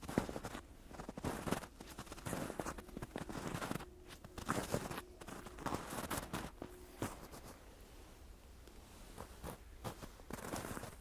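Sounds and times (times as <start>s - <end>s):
footsteps crunching in snow: 0.0s - 11.0s.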